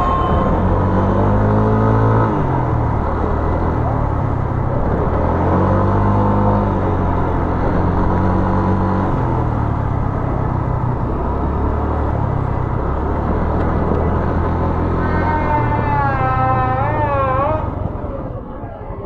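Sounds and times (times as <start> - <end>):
noisy traffic din: 0.0 - 19.0
vehicle engines revving: 0.0 - 19.0.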